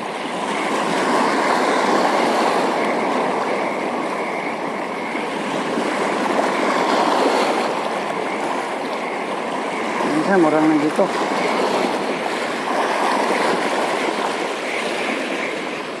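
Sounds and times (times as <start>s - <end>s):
water rushing at rocky shore: 0.0s - 16.0s.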